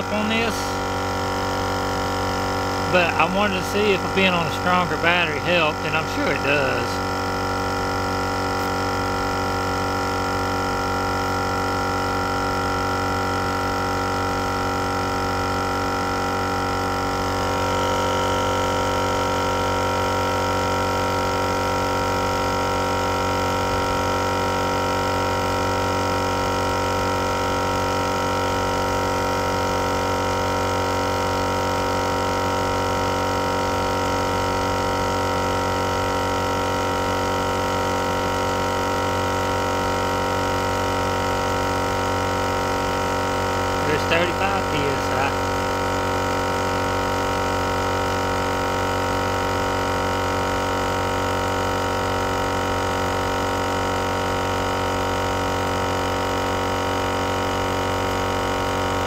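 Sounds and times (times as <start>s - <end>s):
air compressor humming: 0.0s - 59.0s.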